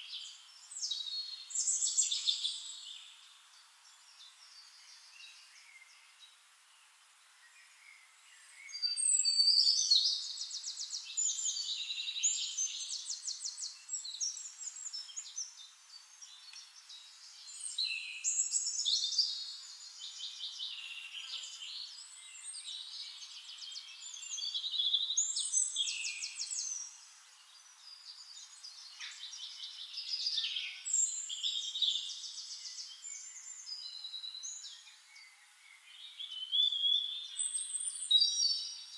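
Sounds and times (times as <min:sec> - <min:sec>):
quiet bird chirps: 0:00.0 - 0:38.9.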